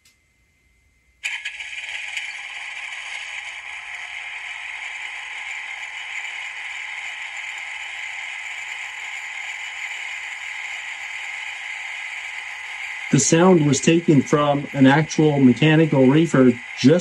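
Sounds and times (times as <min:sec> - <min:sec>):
tinny diesel generator sound: 0:01.2 - 0:17.0.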